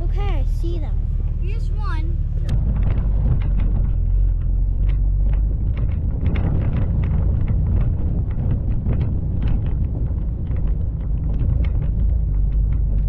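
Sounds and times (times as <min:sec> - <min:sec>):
small knocks and rattles: 0:00.0 - 0:13.0
vehicle engine and tyres rumbling: 0:00.0 - 0:13.0.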